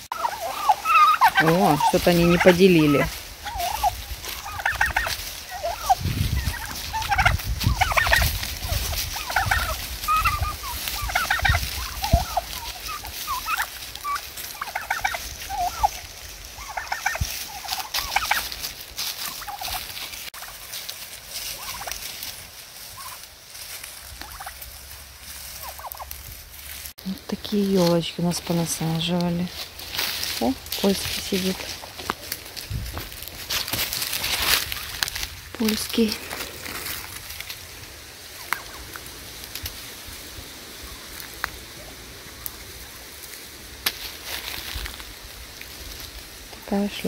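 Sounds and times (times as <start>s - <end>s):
turkeys calling: 0.0s - 47.0s.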